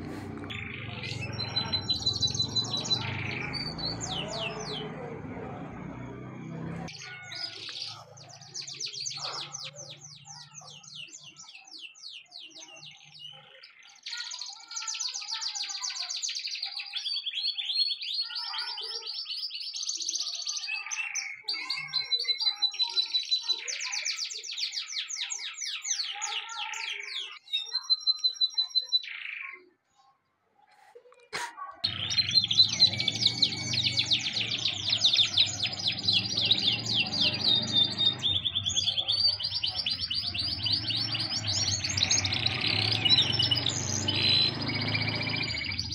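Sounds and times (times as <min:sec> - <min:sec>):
canary singing: 0:00.0 - 0:29.7, 0:31.8 - 0:45.9.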